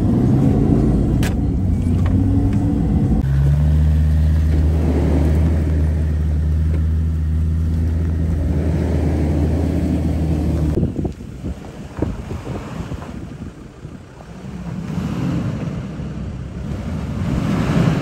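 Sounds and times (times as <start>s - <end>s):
off-road engine droning: 0.0s - 18.0s.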